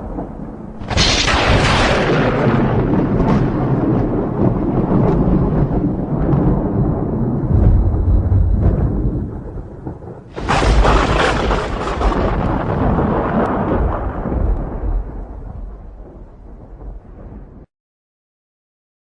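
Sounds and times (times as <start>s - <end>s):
sharp thunder crack: 0.0s - 17.7s
thunder rumbling: 0.0s - 17.7s.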